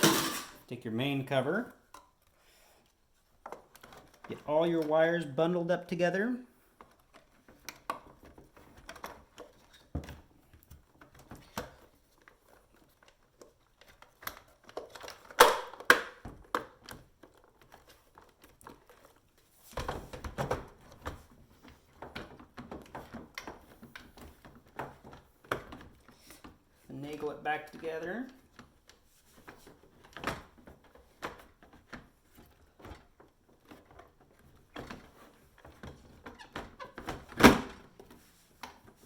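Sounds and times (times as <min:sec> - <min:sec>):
plastic parts clicking and knocking: 0:03.3 - 0:05.0, 0:06.8 - 0:39.0.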